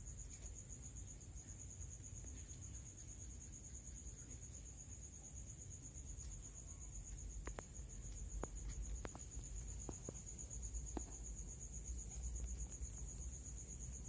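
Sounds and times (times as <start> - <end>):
cricket trilling: 0.0 - 14.0.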